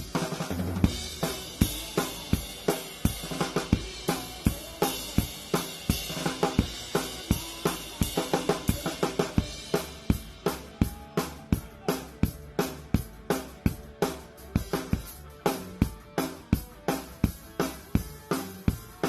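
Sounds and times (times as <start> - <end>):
drum kit beat: 0.0 - 19.0
live rock band: 0.0 - 19.0.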